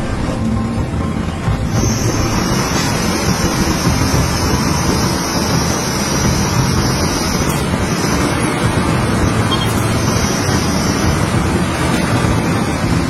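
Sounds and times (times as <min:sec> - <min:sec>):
diesel engine rumbling: 0:00.0 - 0:13.0
thin high whine: 0:00.0 - 0:13.0.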